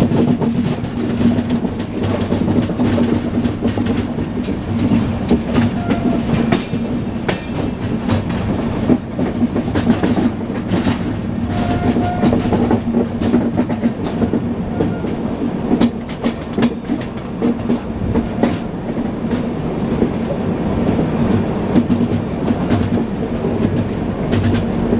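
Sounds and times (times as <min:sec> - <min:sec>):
train rumble: 0:00.0 - 0:24.9
train wheels clattering over rail joints: 0:00.0 - 0:24.9.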